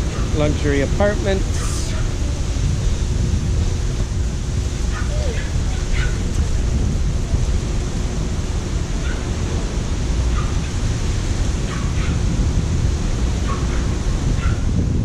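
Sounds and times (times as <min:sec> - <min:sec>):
surf: 0:00.0 - 0:15.0
wind buffeting microphone: 0:00.0 - 0:15.0.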